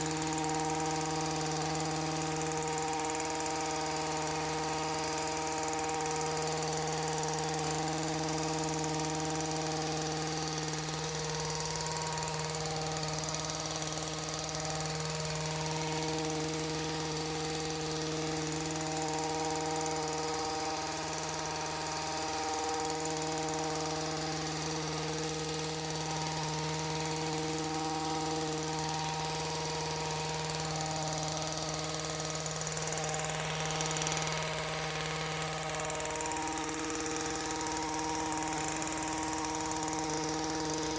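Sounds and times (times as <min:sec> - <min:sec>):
small gasoline engine running: 0:00.0 - 0:40.9.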